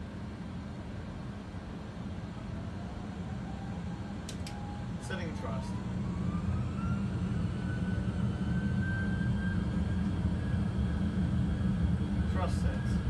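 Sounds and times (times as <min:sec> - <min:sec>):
jet engines spooling up: 0:01.9 - 0:13.0
low rumble of takeoff roll: 0:01.9 - 0:13.0.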